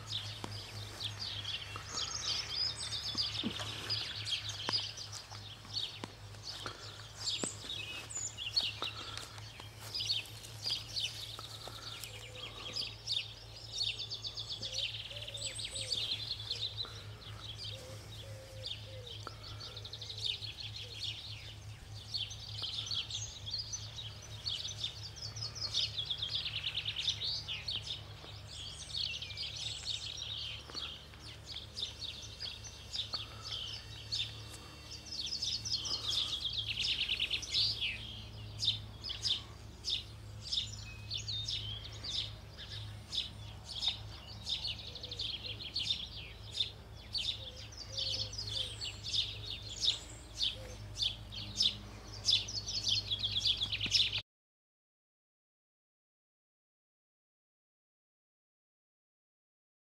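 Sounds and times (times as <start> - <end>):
songbirds singing: 0.0 - 54.2
steady low hum: 0.0 - 54.2.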